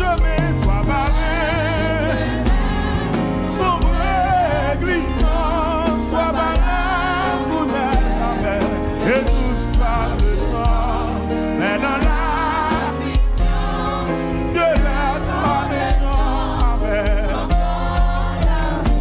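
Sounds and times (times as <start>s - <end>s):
man singing with vibrato: 0.0s - 17.9s
instrumental accompaniment: 0.0s - 19.0s.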